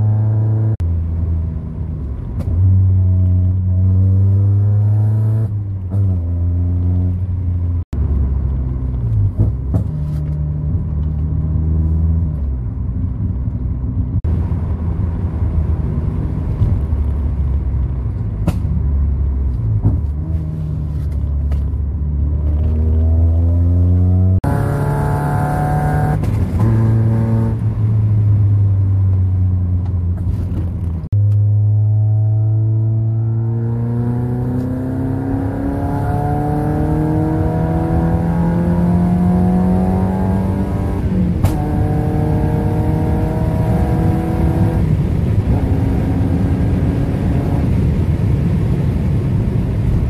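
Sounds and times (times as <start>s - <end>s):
car engine accelerating through gears: 0.0s - 50.0s.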